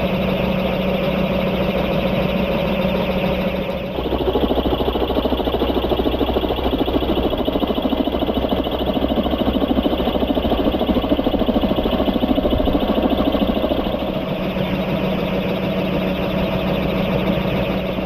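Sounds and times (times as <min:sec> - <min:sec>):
helicopter rotor chopping: 0:00.0 - 0:18.0.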